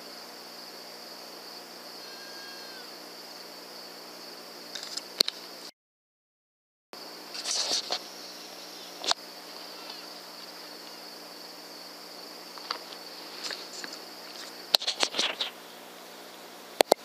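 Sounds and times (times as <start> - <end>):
night insects chorus: 0.0 - 5.7, 7.0 - 17.0.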